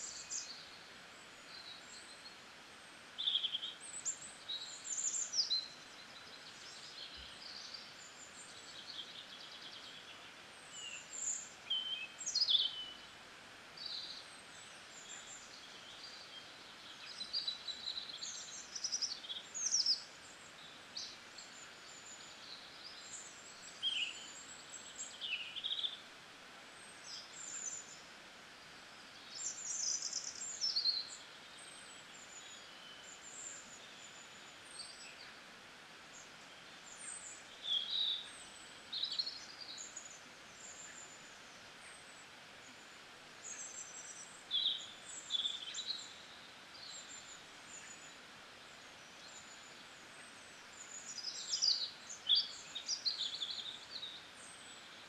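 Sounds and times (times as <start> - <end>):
small birds chirping: 0.0 - 55.0
steady soft hiss: 0.0 - 55.0.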